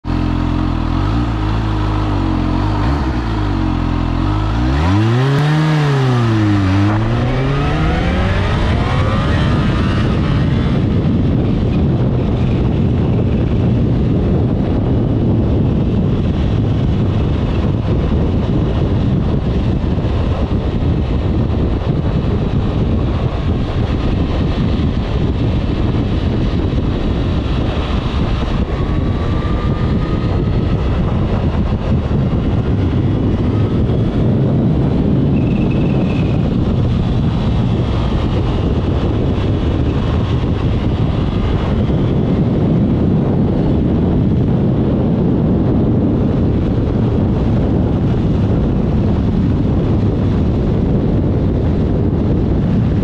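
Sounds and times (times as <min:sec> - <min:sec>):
motorcycle engine accelerating: 0:00.0 - 0:53.0
rushing noise of riding at speed: 0:00.0 - 0:53.0.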